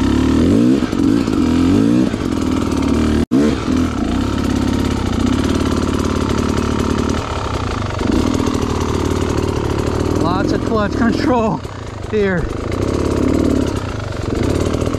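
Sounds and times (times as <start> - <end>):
dirt bike engine revving: 0.0 - 14.9.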